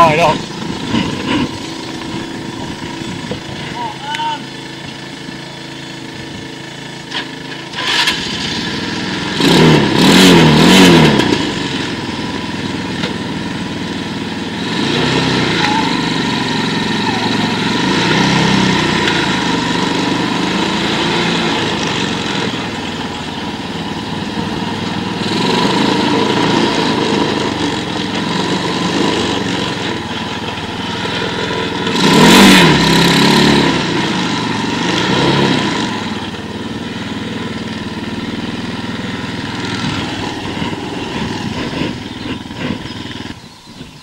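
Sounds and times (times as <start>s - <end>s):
quad bike engine revving: 0.0s - 44.0s.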